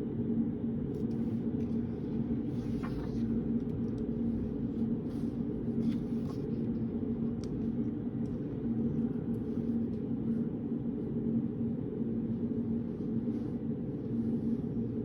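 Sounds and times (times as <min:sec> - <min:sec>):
low room hum and rumble: 0:00.0 - 0:15.0.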